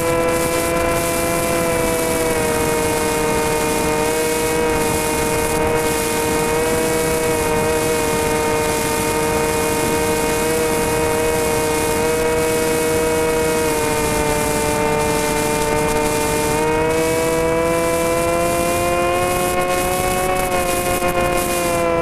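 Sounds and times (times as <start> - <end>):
droning propeller motor whine: 0.0 - 22.0.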